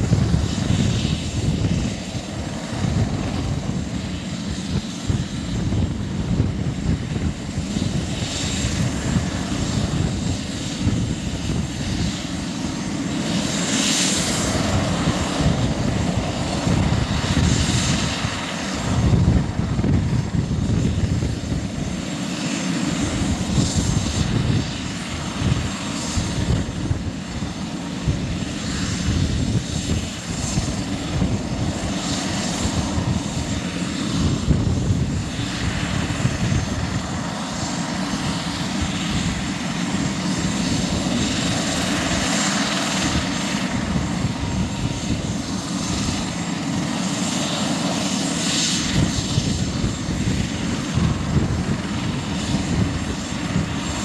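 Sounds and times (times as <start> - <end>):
helicopter turbine rush: 0.0 - 54.0.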